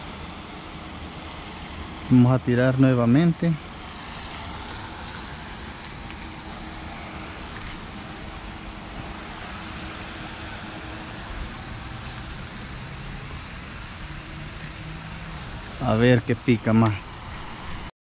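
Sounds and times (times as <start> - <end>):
outdoor rushing noise: 3.0 - 17.9.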